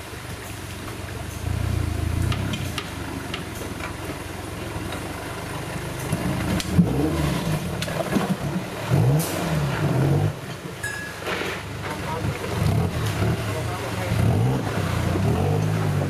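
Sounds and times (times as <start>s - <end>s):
truck engine revving: 0.7s - 10.7s, 11.6s - 16.0s.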